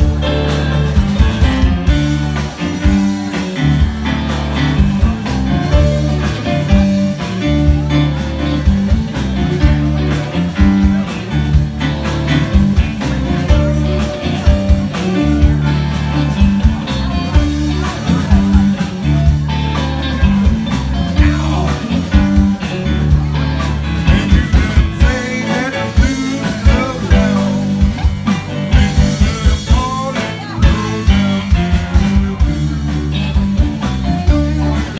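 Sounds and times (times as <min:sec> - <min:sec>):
bass guitar: 0:00.0 - 0:34.9
electric guitars: 0:00.0 - 0:34.9
steady drum beat: 0:00.0 - 0:34.9.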